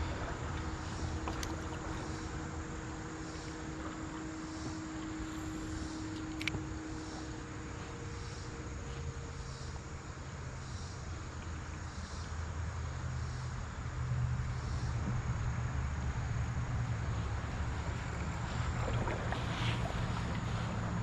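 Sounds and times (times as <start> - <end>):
faint droning hum: 0.0 - 21.0.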